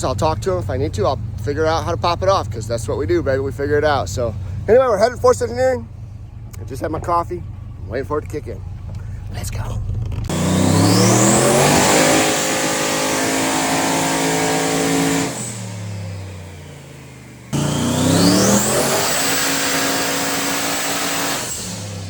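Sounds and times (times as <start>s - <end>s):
vehicle engine accelerating: 0.0s - 22.0s.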